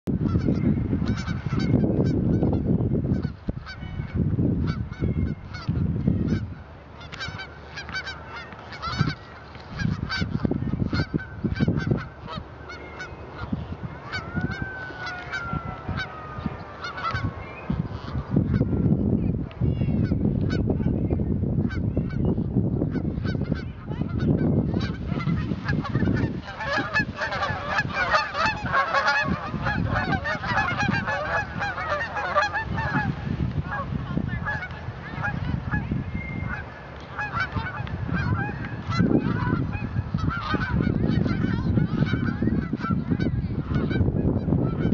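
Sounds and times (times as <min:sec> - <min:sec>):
geese honking: 0:00.2 - 0:18.8, 0:21.6 - 0:44.9.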